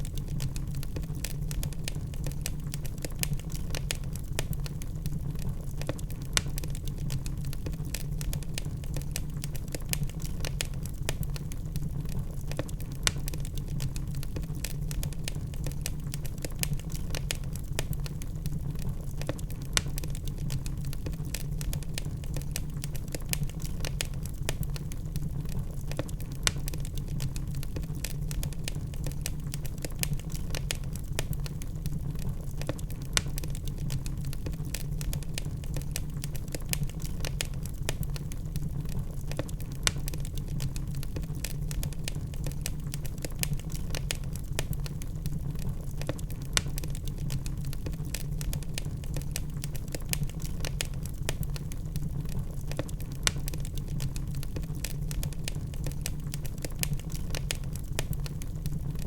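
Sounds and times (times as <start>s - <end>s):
fire rumbling: 0.0s - 59.0s
logs crackling and popping: 0.0s - 59.0s.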